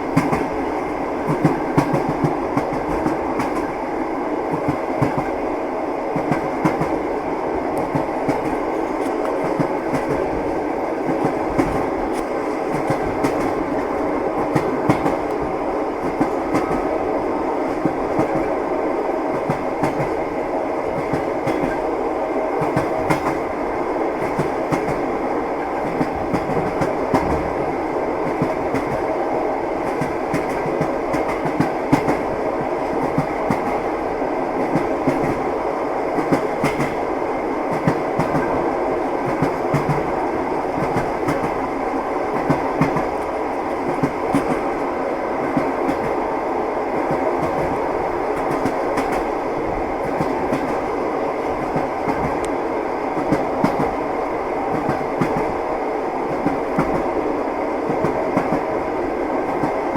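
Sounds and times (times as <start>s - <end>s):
train wheels clattering on rails: 0.0s - 3.9s, 4.5s - 5.5s, 6.1s - 18.7s, 19.3s - 57.2s, 57.8s - 59.9s.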